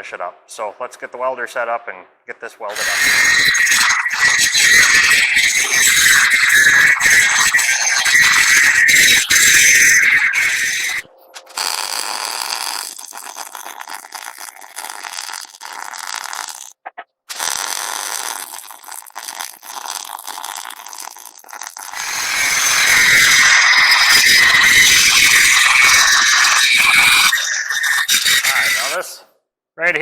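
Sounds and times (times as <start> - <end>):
welder crackling: 2.7 - 16.7, 17.3 - 29.1.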